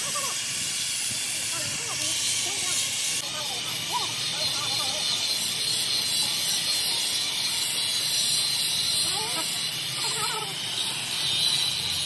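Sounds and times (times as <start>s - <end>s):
hose water spraying: 0.0s - 12.0s.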